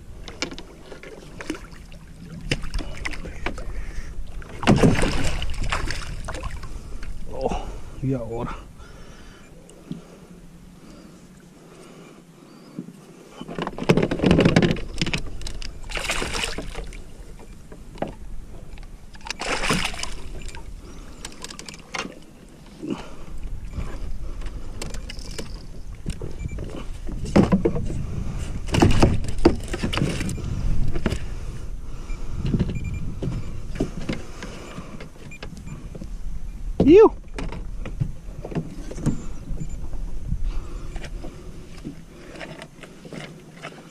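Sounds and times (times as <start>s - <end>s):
rustling and knocking against kayak: 0.0s - 7.6s, 8.4s - 43.9s.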